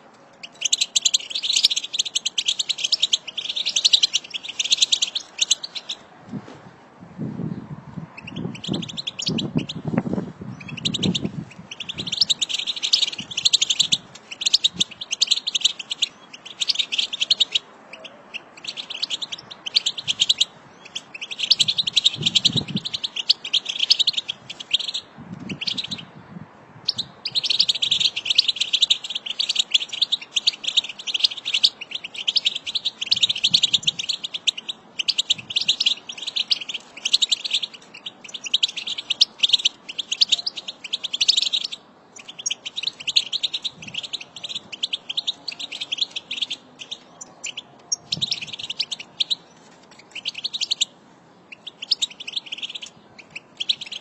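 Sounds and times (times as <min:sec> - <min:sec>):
goldfinches twittering: 0:00.4 - 0:06.0, 0:08.2 - 0:09.8, 0:10.6 - 0:26.0, 0:26.9 - 0:50.9, 0:51.5 - 0:54.0.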